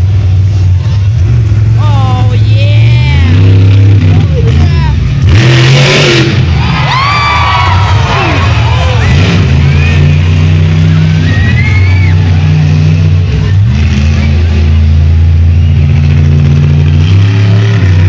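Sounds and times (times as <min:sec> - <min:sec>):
monster truck engine running: 0:00.0 - 0:18.0.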